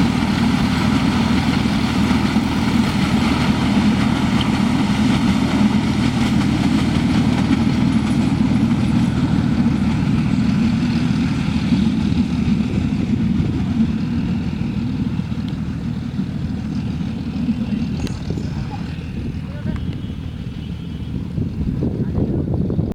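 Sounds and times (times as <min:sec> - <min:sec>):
train diesel engine drone: 0:00.0 - 0:22.9.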